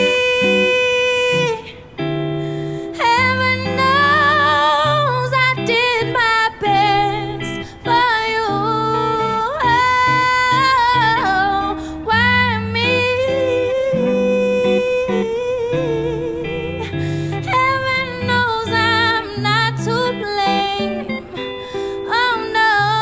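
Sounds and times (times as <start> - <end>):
live band with bass and guitar: 0.0 - 23.0
woman singing with vibrato: 0.0 - 23.0.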